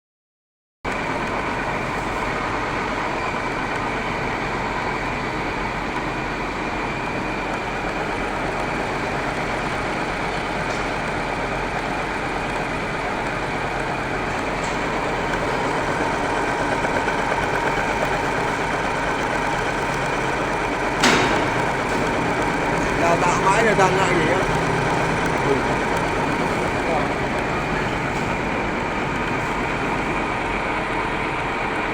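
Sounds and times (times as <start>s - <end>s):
milling machine running: 0.9s - 31.9s.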